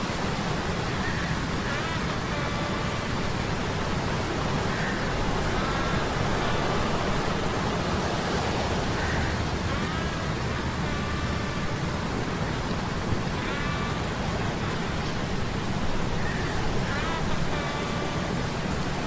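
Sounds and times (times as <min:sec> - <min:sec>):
wind and surf rushing: 0:00.0 - 0:19.0.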